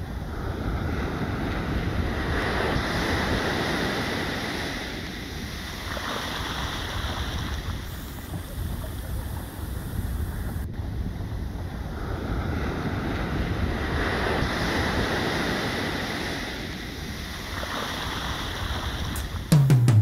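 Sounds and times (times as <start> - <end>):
waves breaking on beach: 0.0 - 19.5
wind rumbling on microphone: 0.0 - 19.5.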